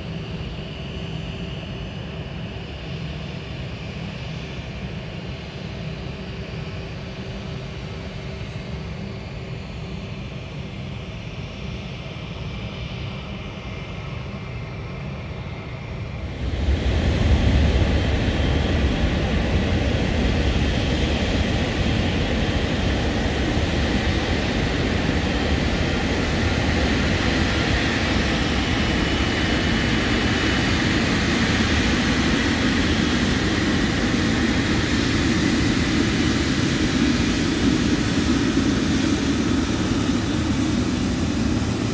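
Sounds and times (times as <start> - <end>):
jet engines rumbling and whining: 0.0 - 41.9.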